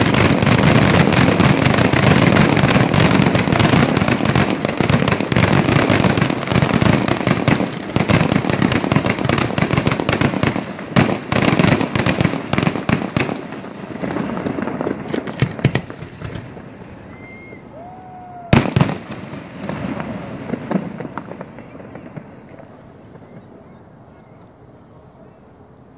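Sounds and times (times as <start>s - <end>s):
fireworks bangs and crackles: 0.0s - 25.3s.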